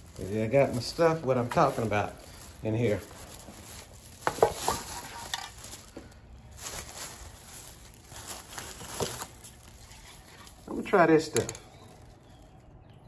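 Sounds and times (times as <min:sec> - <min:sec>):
rustling and handling: 0:00.0 - 0:12.8.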